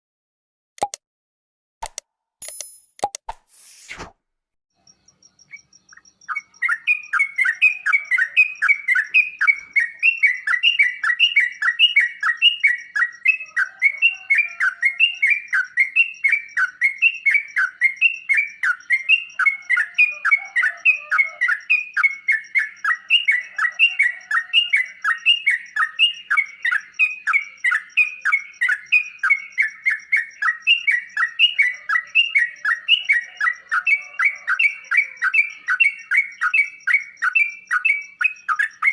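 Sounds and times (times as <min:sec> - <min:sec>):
bird calling with rapid chirps: 0:04.7 - 0:38.9.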